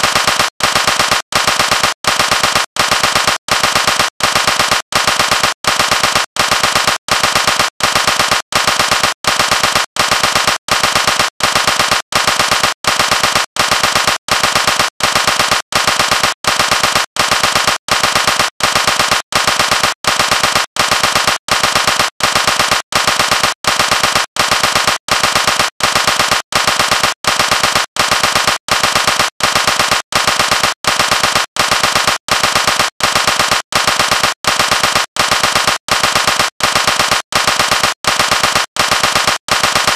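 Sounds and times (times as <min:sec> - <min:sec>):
rapid crackle bursts: 0:00.0 - 0:39.9.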